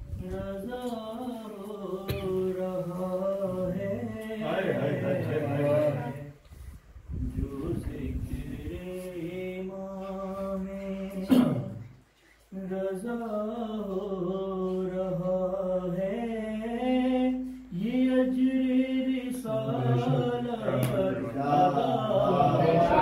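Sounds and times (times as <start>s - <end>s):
man singing unaccompanied: 0.1s - 6.4s, 7.2s - 23.0s.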